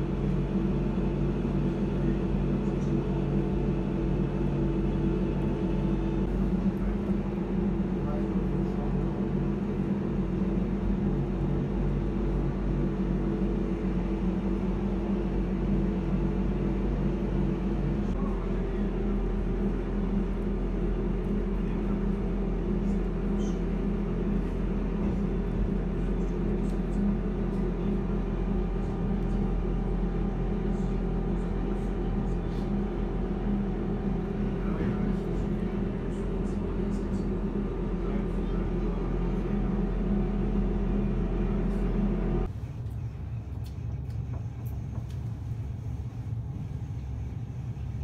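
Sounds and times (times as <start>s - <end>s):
train motors droning: 0.0s - 48.0s.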